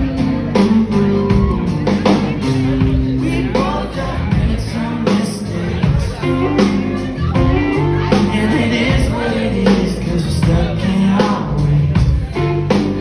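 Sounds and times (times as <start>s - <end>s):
drum kit beat: 0.0s - 13.0s
guitar and bass: 0.0s - 13.0s
live rock band playing: 0.0s - 13.0s
person singing: 0.0s - 13.0s.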